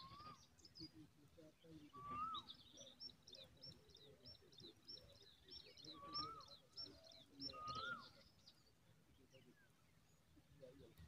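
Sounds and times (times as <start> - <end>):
songbird high chirps: 0.0 - 11.0.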